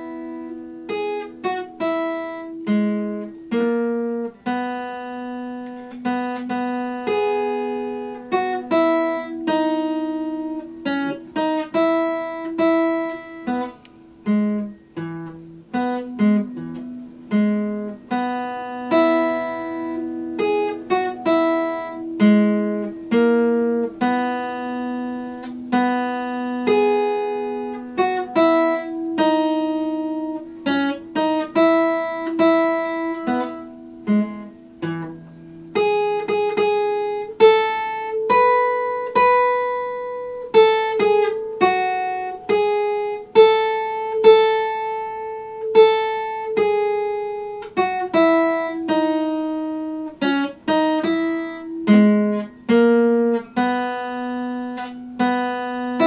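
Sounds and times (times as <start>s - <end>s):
acoustic guitar melody: 0.0s - 56.0s.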